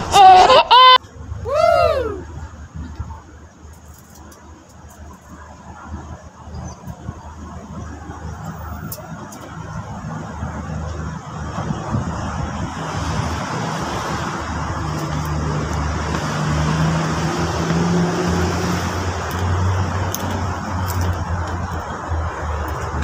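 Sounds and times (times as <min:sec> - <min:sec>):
passing vehicles hiss: 0:00.0 - 0:23.0
low engine hum: 0:01.0 - 0:23.0.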